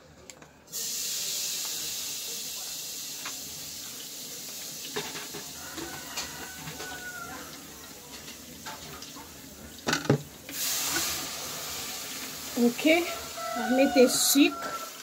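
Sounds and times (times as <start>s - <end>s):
steady hiss: 0.7s - 5.9s, 7.6s - 15.0s.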